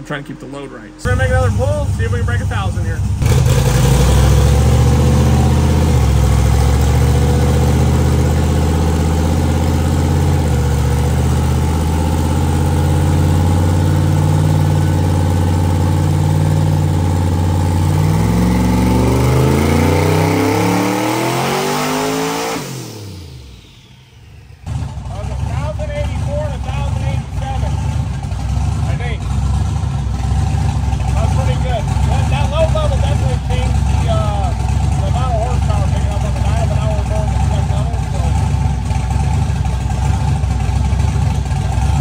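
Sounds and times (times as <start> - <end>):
car engine on dyno: 0.0 - 42.0.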